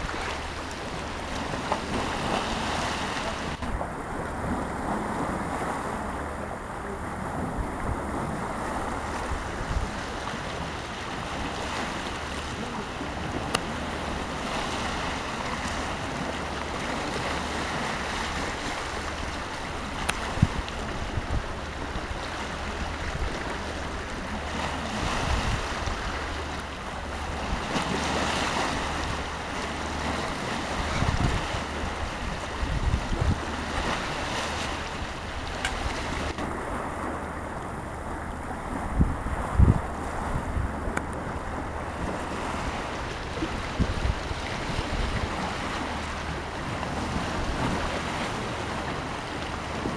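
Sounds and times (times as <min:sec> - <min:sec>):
sea surf washing: 0:00.0 - 0:49.9
wind buffeting microphone: 0:00.0 - 0:49.9.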